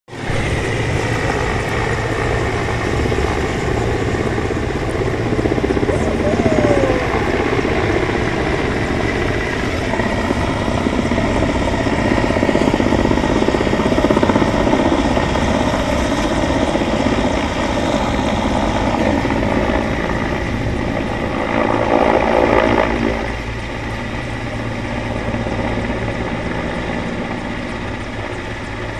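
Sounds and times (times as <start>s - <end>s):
helicopter rotor and engine drone: 0.1s - 28.9s.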